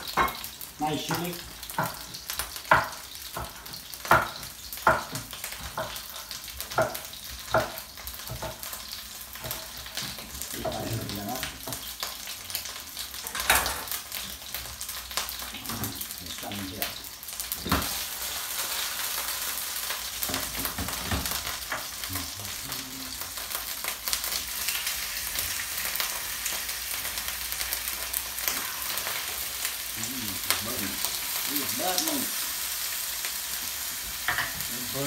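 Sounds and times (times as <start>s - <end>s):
fish sizzling in a frying pan: 0.0s - 35.0s.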